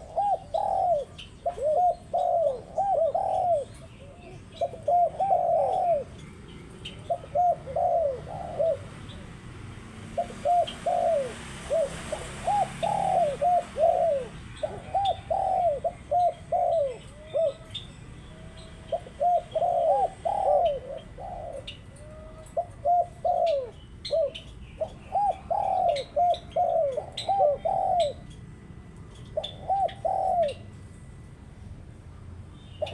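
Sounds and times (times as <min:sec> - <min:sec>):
small birds chirping: 0:00.0 - 0:31.0, 0:32.1 - 0:32.9
doves cooing: 0:00.0 - 0:31.2.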